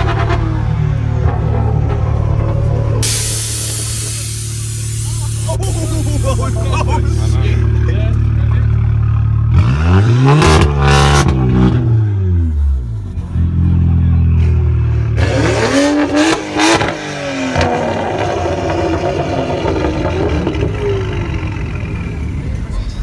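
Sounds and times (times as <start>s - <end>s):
car engine revving: 0.0s - 22.6s.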